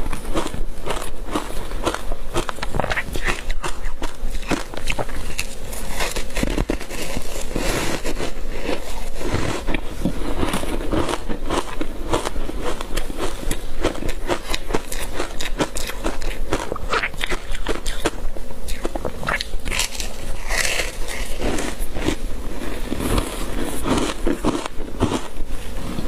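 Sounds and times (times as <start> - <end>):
crunching and chewing ice: 0.0 - 26.0.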